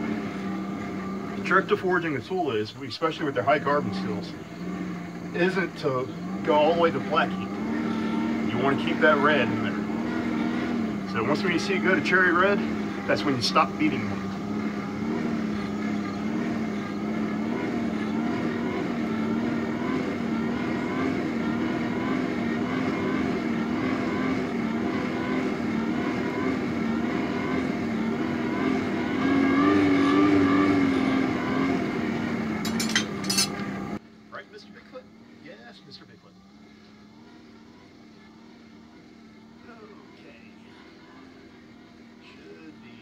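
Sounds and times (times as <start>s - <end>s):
motor drone wavering: 0.0s - 43.0s.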